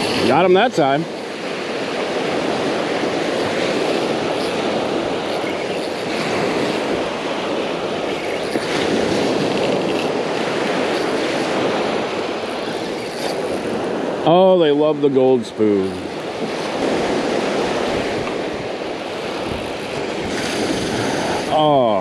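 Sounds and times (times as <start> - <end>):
wind on microphone: 0.0 - 14.3, 15.7 - 22.0
ocean surf washing ashore: 0.0 - 22.0.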